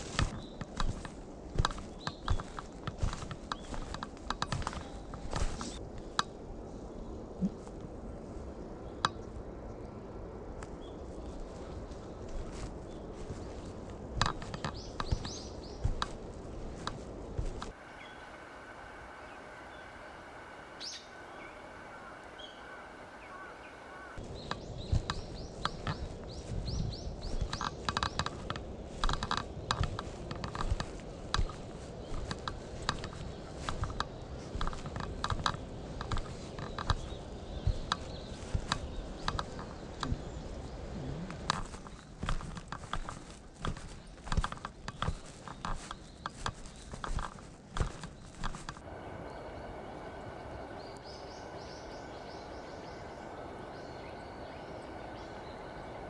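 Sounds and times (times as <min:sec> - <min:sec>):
footsteps crunching on forest path: 0:00.0 - 0:05.8, 0:10.6 - 0:24.2, 0:24.8 - 0:39.8, 0:41.6 - 0:56.0.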